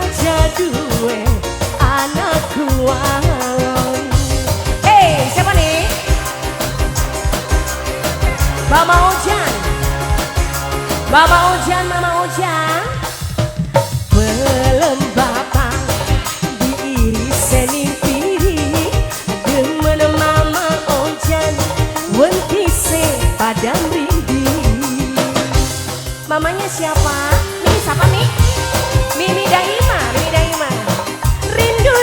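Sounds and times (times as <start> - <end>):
band music with bending melody: 0.0 - 32.0
steady drum beat: 0.0 - 32.0.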